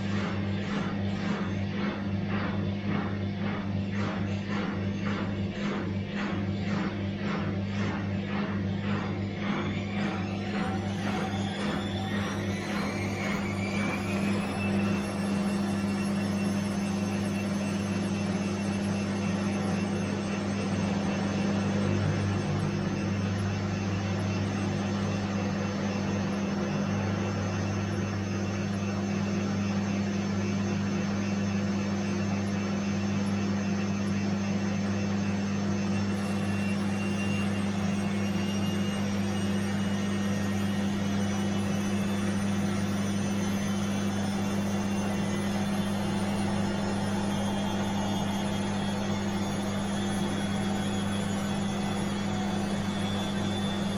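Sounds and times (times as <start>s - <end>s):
washing machine humming: 0.0s - 53.9s.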